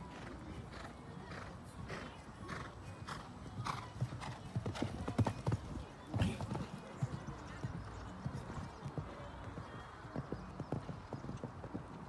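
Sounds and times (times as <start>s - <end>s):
horse hoofbeats on sand: 0.2s - 12.0s.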